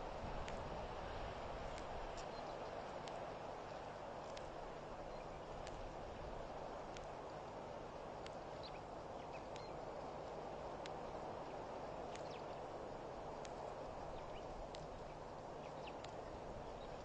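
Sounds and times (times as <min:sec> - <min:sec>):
steady hiss: 0:00.0 - 0:17.0
sharp ticks: 0:00.4 - 0:00.7, 0:01.6 - 0:17.0
birds chirping: 0:01.6 - 0:17.0.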